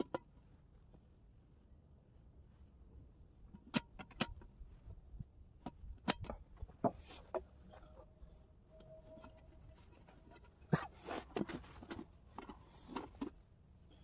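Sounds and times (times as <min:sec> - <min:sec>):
faint steady tone: 0:00.0 - 0:14.0.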